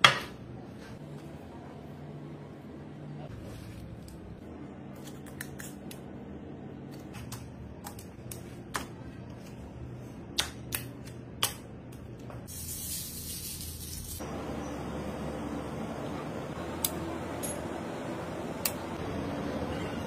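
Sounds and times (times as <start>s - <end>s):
steady kitchen hum: 0.0s - 20.0s.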